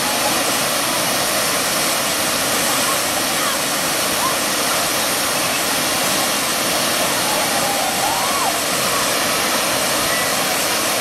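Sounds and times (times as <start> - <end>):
water rushing over cascade: 0.0 - 11.0.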